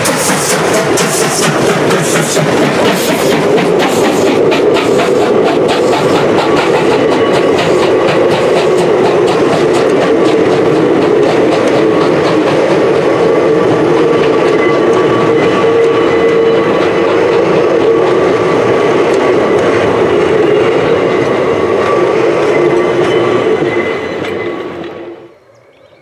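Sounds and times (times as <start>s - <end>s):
train wheels clattering on rails: 0.0s - 25.4s.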